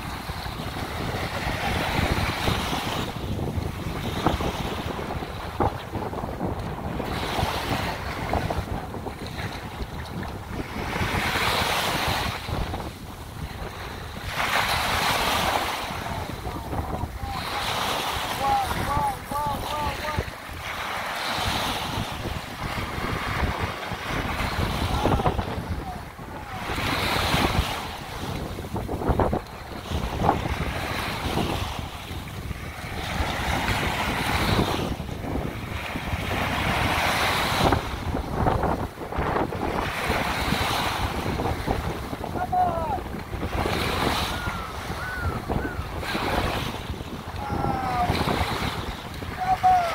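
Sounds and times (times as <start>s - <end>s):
small waves washing on sand: 0.0s - 49.9s
wind buffeting microphone: 0.0s - 49.9s.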